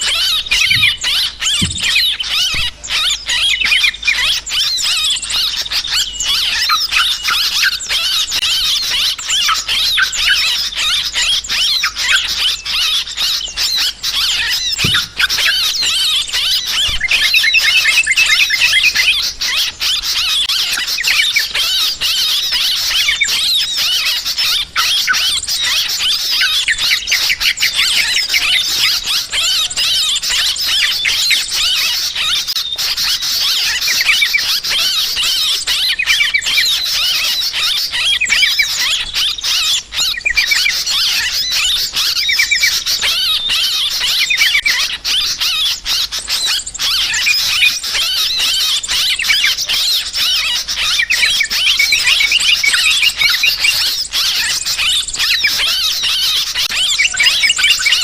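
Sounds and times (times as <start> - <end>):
birds chattering in chorus: 0.0 - 58.0.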